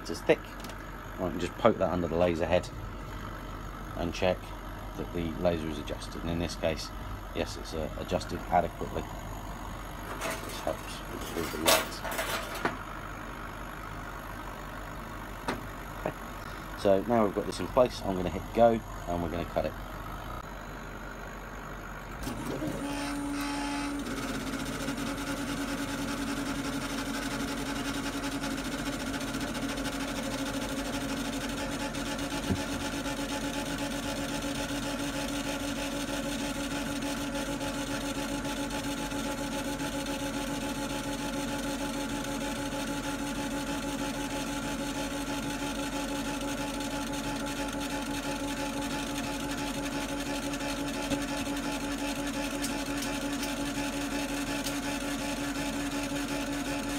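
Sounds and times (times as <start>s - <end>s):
laser cutter motors whining: 0.0s - 11.9s, 15.4s - 20.7s, 21.6s - 56.9s
machine hum: 0.0s - 56.9s.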